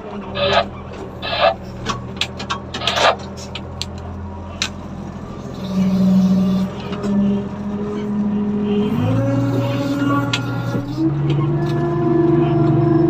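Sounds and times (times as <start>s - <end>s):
heavy diesel engine running: 0.0s - 13.0s
scraping: 0.1s - 12.0s.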